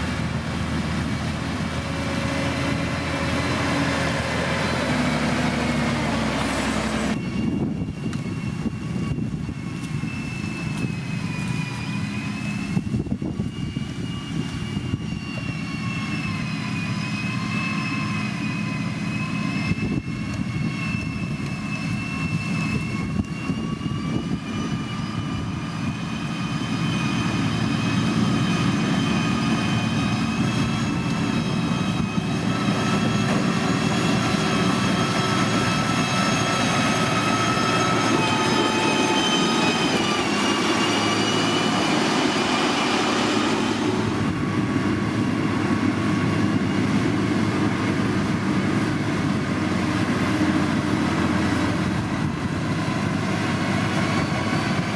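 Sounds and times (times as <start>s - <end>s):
diesel engine rumble: 0.0s - 54.9s
high whine: 0.0s - 54.9s.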